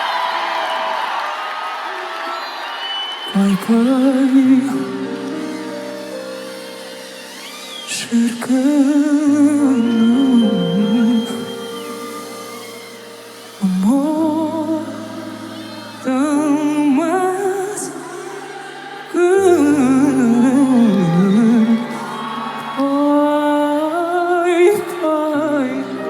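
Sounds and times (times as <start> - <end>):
person singing with vibrato: 3.3 - 26.0
piano chords: 3.3 - 26.0.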